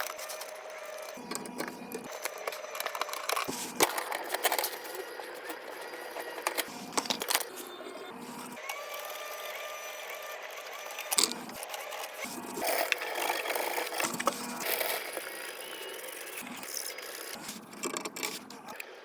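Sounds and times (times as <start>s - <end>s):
mechanical whirring: 0.0s - 18.9s.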